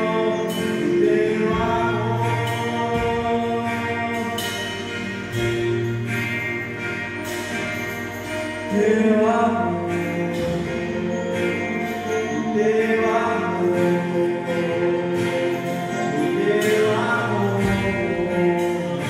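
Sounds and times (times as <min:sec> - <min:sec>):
worship singing: 0:00.0 - 0:07.6, 0:08.2 - 0:19.0
sustained instrumental accompaniment: 0:00.0 - 0:19.0.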